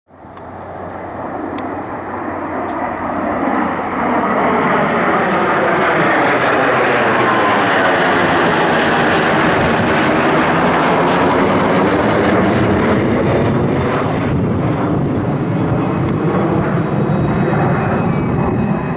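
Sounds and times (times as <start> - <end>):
jet engine rushing: 0.1 - 18.9.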